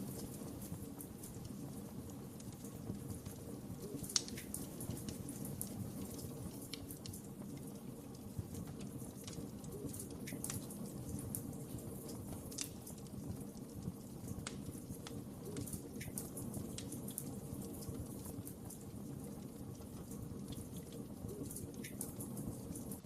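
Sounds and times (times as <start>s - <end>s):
fire popping and snapping: 0.0s - 23.0s
wood fire crackling: 0.0s - 23.0s.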